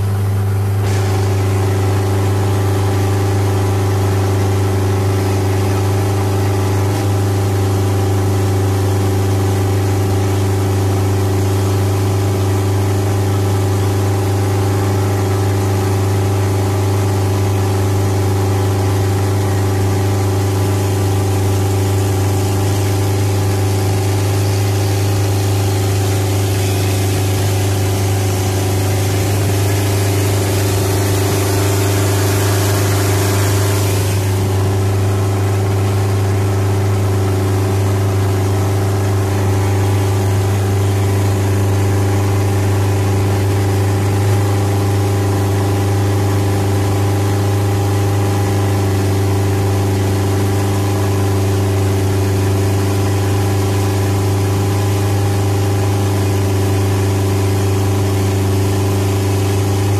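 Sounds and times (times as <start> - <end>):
boat engine drone: 0.0 - 59.9
loud rushing hiss: 0.0 - 59.9.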